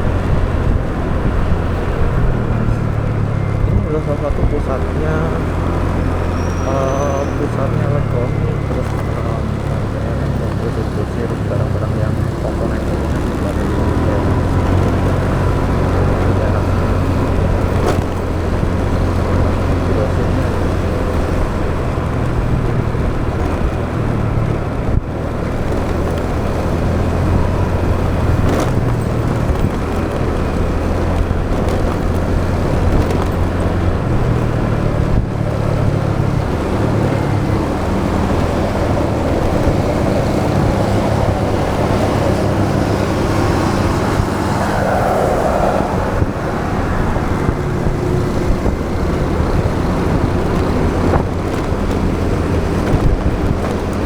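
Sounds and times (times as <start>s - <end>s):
motorbike engine: 0.0s - 54.0s
road traffic: 0.0s - 54.0s
wind and road noise: 0.0s - 54.0s.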